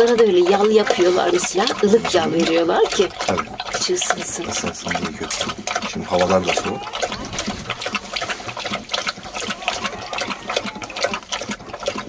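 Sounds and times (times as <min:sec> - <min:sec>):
dog lapping and slurping: 0:00.0 - 0:12.0.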